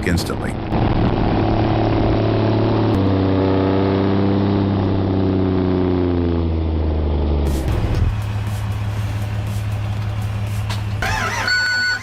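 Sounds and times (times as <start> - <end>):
snowplow engine under load: 0.0 - 12.0.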